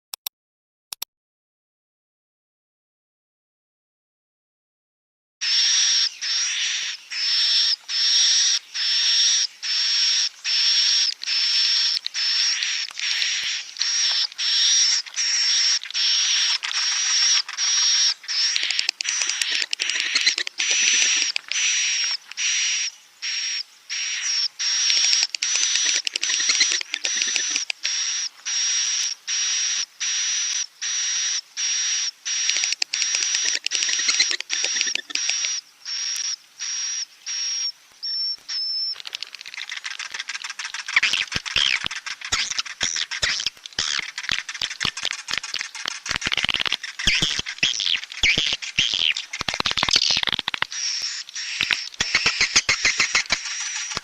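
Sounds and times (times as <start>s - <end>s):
swiftlet chirps with thin whistle: 5.4s - 54.0s.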